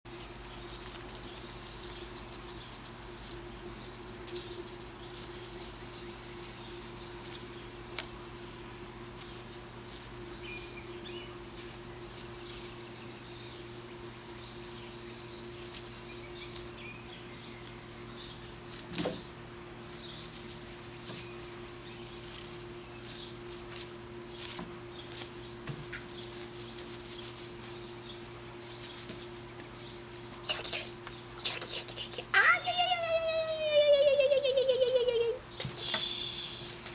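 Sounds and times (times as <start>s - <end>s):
steady low hum: 0.1s - 36.9s
small birds chirping: 0.2s - 36.9s.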